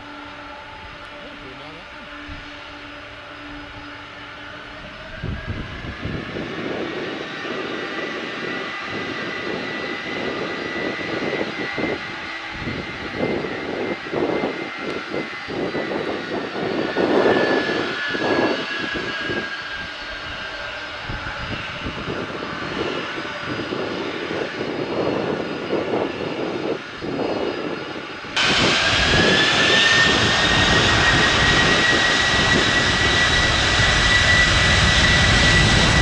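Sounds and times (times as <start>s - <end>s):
jet engines whining and rumbling: 0.0s - 36.0s.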